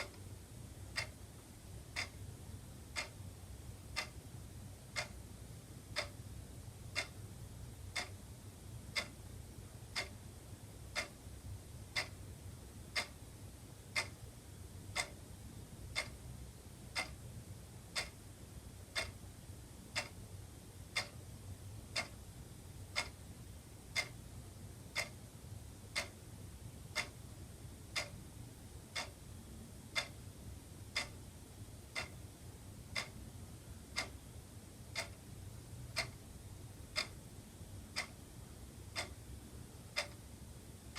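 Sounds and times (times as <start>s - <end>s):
wall clock ticking: 0.0s - 14.3s, 14.9s - 22.2s, 22.8s - 28.2s, 28.8s - 40.9s
faint low hum: 0.0s - 40.9s.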